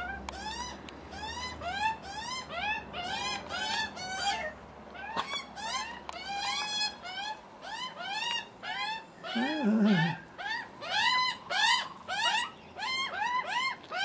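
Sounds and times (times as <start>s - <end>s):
young magpies begging calls: 0.0s - 14.0s.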